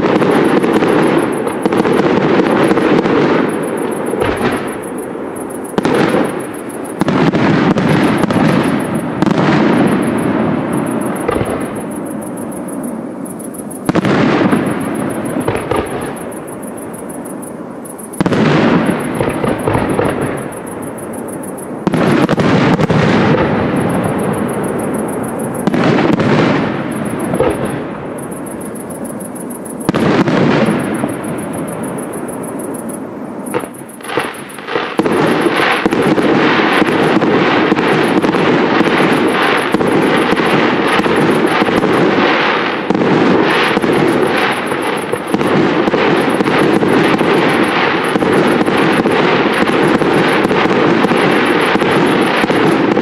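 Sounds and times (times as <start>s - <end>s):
dense firework crackling: 0.0s - 53.0s
firework shells booming: 0.0s - 53.0s.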